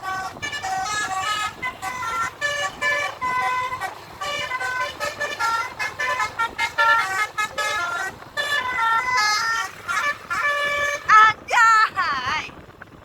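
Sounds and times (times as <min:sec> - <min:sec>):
multi-note bus horn tune: 0:00.0 - 0:11.5.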